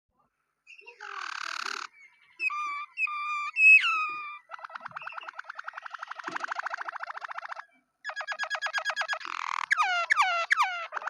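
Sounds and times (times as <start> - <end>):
canary singing: 0.6 - 11.0.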